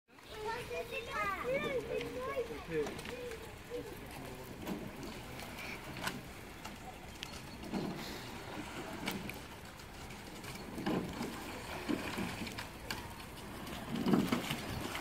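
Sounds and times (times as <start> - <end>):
oar blades splashing water: 0.1 - 15.0.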